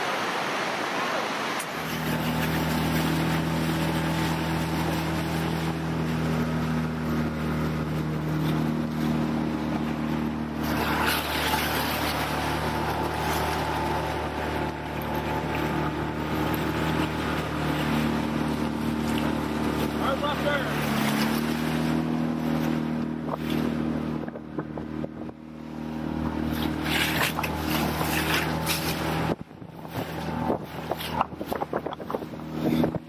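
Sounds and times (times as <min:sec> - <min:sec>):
outboard motor running: 0:00.0 - 0:33.0
water rushing past hull: 0:00.0 - 0:33.0.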